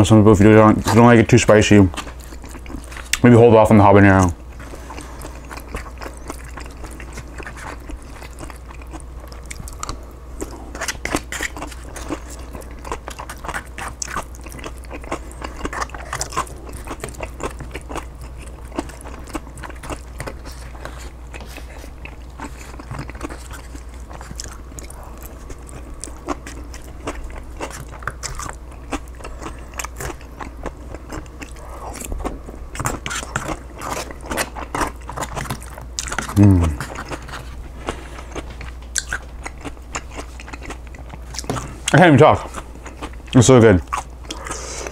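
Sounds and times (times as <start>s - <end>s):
chewing and crunching food: 0.0s - 44.9s
steady low hum: 0.0s - 44.9s.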